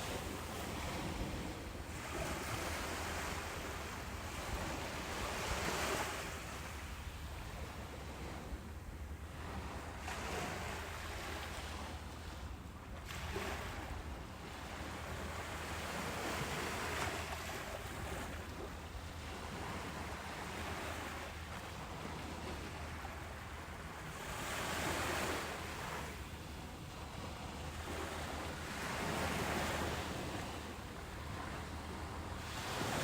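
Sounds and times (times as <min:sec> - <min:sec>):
ocean waves breaking on beach: 0:00.0 - 0:33.0.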